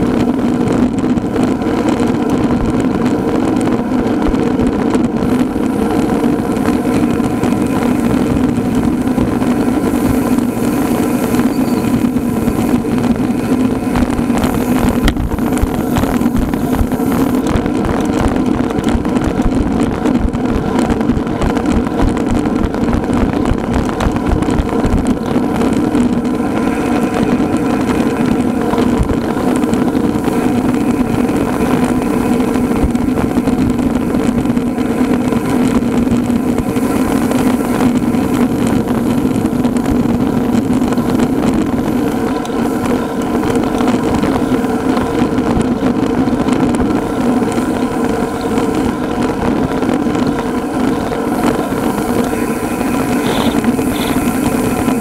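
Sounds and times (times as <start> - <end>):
constant low hum: 0.0 - 55.0
road noise: 0.0 - 55.0
wind buffeting: 0.0 - 55.0.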